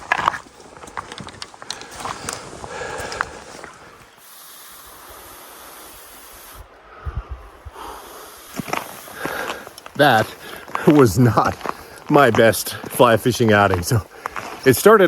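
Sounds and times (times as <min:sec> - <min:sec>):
creek flowing: 0:01.6 - 0:15.0.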